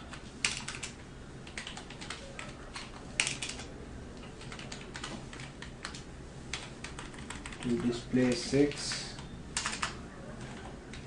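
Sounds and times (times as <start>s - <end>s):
computer keyboard typing: 0.0s - 11.0s.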